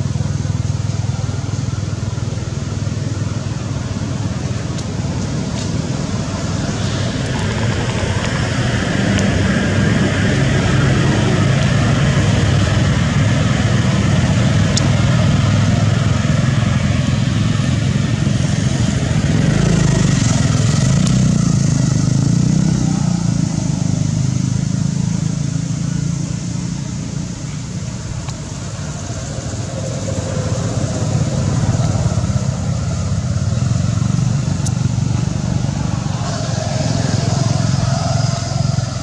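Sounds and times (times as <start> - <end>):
motor traffic rumble: 0.0 - 39.0.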